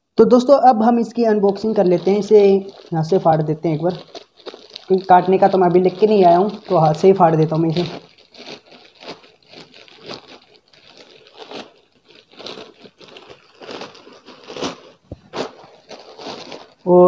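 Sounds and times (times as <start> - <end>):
plastic bag tearing: 1.1 - 17.0.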